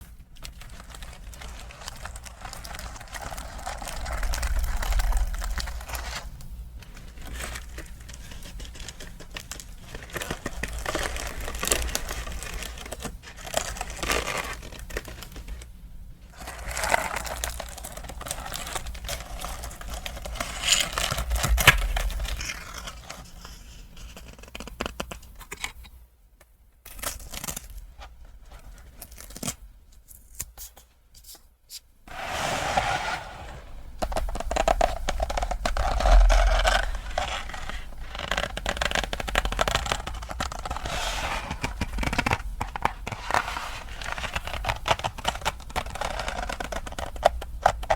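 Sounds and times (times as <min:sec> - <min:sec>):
packaging crinkling and tearing: 0:00.2 - 0:15.7, 0:16.3 - 0:25.9, 0:26.8 - 0:30.8, 0:33.9 - 0:47.9.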